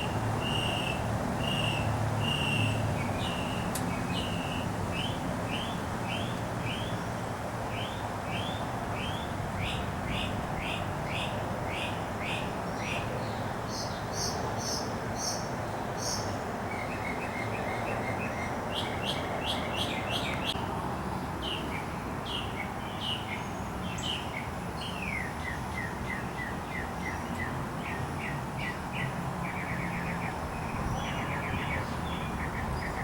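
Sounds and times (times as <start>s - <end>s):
songbirds singing and chirping: 0.0s - 33.0s.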